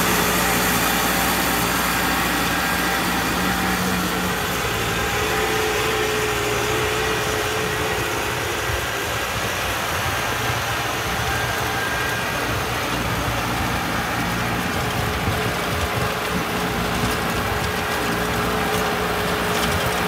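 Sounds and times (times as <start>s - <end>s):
square baler working: 0.0s - 20.0s
tractor engine running: 0.0s - 20.0s.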